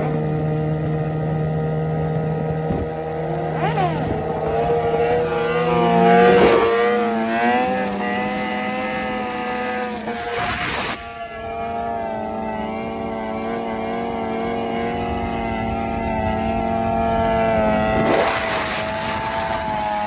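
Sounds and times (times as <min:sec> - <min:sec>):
motorcycle engine revving hard: 0:00.0 - 0:20.0.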